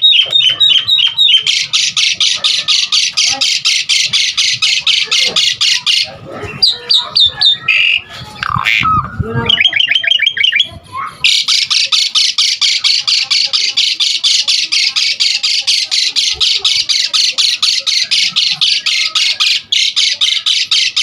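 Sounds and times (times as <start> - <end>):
harsh chattering bird notes: 0.0 - 21.0
starling singing: 0.0 - 21.0.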